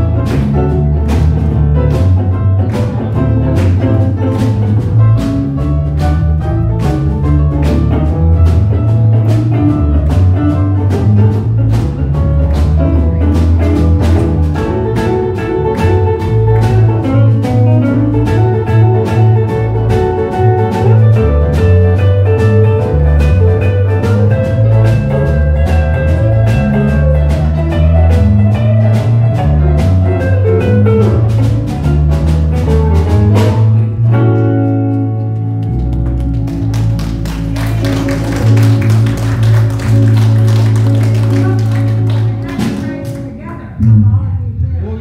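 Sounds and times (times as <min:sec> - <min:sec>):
electric guitar chords and melody: 0:00.0 - 0:44.1
bass line: 0:00.0 - 0:45.0.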